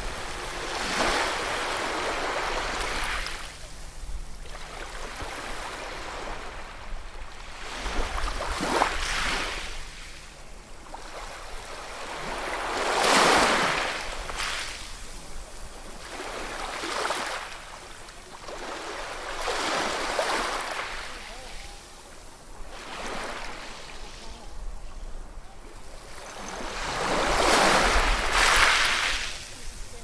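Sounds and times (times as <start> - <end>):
low rumble of surf: 0.0 - 30.0
ocean waves breaking on shore: 0.0 - 30.0.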